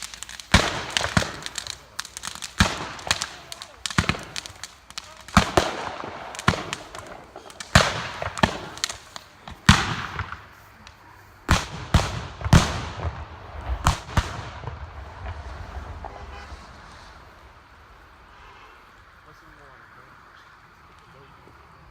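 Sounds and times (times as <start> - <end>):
fireworks exploding: 0.0 - 18.5.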